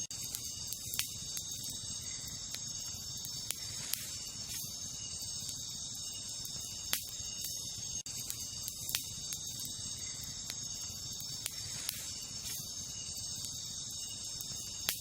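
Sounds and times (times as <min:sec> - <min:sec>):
campfire crackling: 0:00.0 - 0:15.0
crickets chirping: 0:00.0 - 0:15.0.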